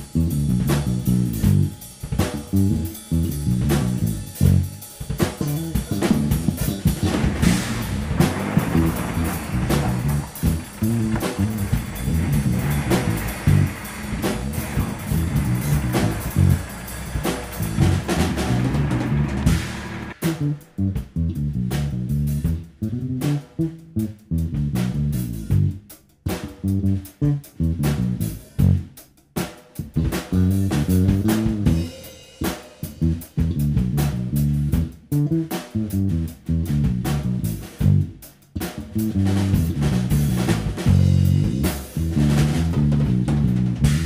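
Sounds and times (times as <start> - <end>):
band music with drums: 0.0 - 44.0.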